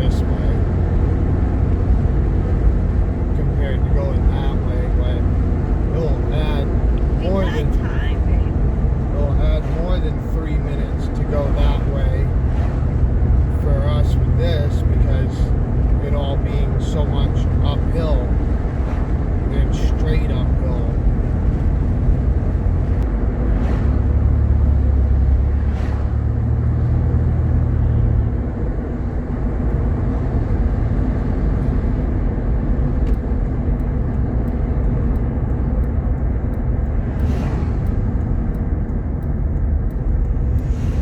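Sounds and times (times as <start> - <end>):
car engine droning: 0.0 - 41.0
road noise: 0.0 - 41.0.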